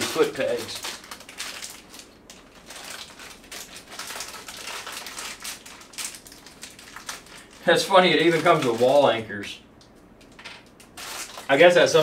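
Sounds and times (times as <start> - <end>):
packaging crinkling: 0.0 - 9.2, 10.2 - 12.0.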